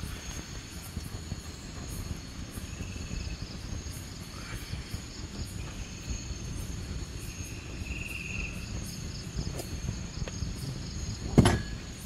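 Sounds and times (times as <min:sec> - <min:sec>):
buzzy insect trill: 0:00.0 - 0:12.0
continuous low rumble: 0:00.0 - 0:12.0
night insects chirping: 0:00.0 - 0:12.0.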